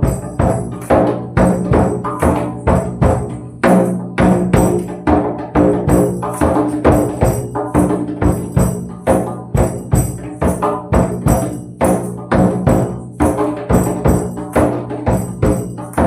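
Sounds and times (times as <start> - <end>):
tambourine jingling: 0.0 - 5.0, 5.9 - 16.0.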